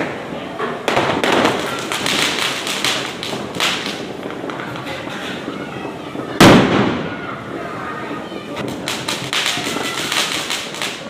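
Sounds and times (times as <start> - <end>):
firecrackers cracking and popping: 0.0 - 11.0.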